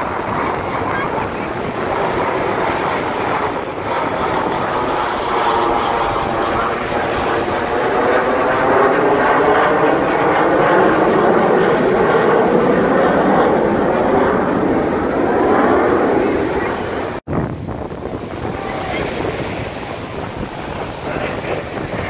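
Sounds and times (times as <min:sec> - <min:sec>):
jets flying past: 0:00.0 - 0:22.0
surf: 0:00.0 - 0:22.0
wind: 0:00.0 - 0:22.0.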